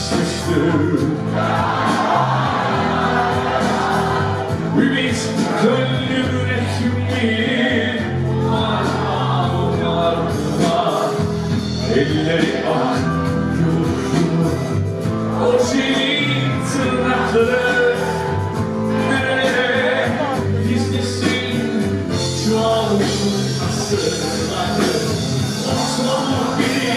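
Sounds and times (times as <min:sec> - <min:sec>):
man singing: 0:00.0 - 0:01.4, 0:04.5 - 0:26.9
bass guitar: 0:00.0 - 0:26.9
drums: 0:00.0 - 0:26.9.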